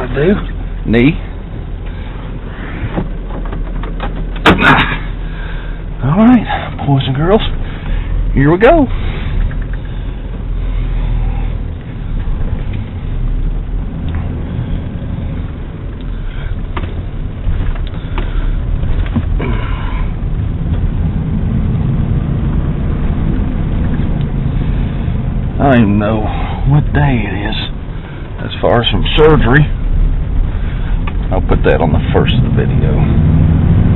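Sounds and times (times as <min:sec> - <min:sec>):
truck engine and road noise: 0:00.0 - 0:33.9.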